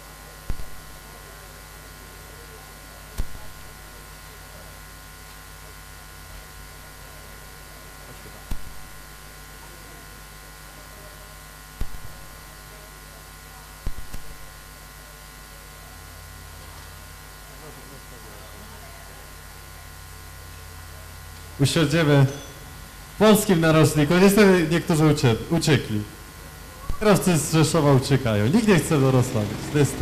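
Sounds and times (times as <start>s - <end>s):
electrical hum and buzz: 0.0s - 30.0s.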